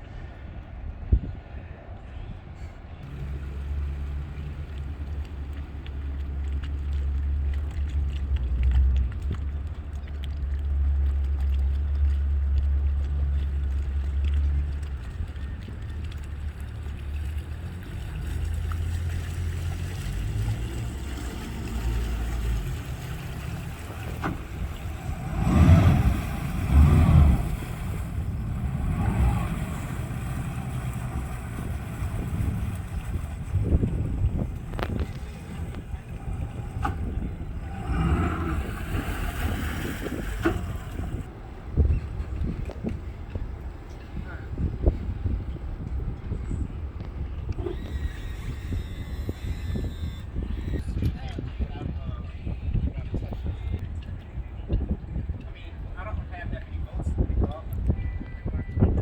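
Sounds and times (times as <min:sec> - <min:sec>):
boat engine droning: 0:02.7 - 0:51.7.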